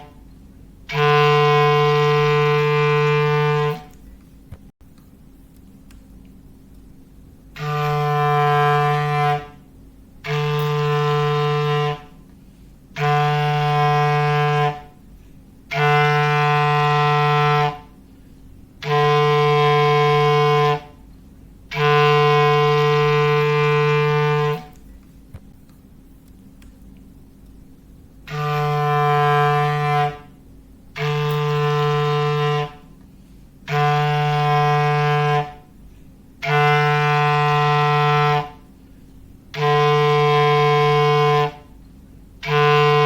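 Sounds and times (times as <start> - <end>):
foghorn blasts: 0.0 - 4.1, 7.5 - 24.8, 28.2 - 43.0.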